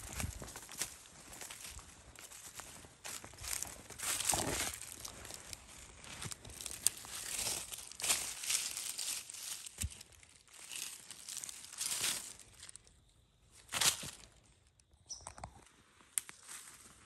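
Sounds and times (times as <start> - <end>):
dry leaves crunching: 0.0 - 12.9, 13.6 - 14.4.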